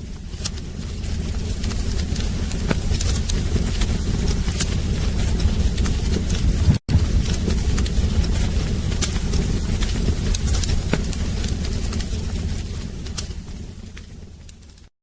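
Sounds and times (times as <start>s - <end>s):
wood fire crackling and popping: 0.0s - 14.9s.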